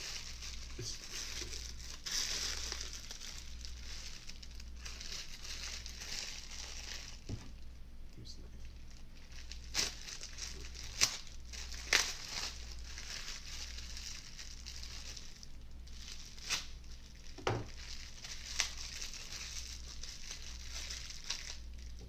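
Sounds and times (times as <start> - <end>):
bubble wrap crackles: 0.0 - 7.7, 8.6 - 22.0
bubble wrap crinkling: 0.0 - 7.8, 8.5 - 22.0.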